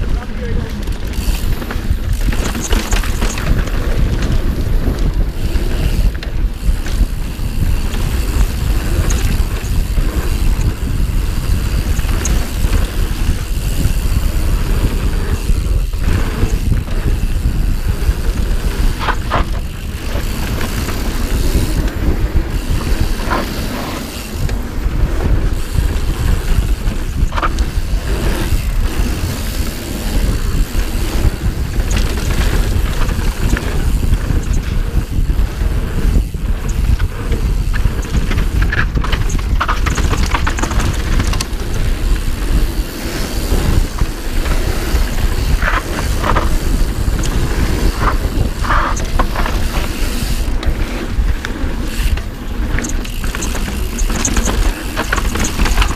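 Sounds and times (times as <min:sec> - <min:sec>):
bike rattling: 0:00.0 - 0:55.9
bike tyres on dirt trail: 0:00.0 - 0:55.9
wind rumble on microphone: 0:00.0 - 0:55.9.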